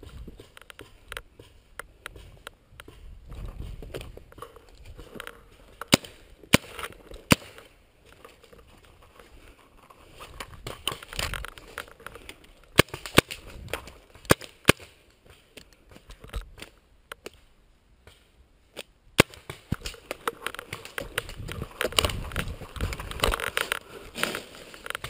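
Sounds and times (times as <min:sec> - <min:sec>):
brush and dry grass rustling: 0:00.0 - 0:25.0.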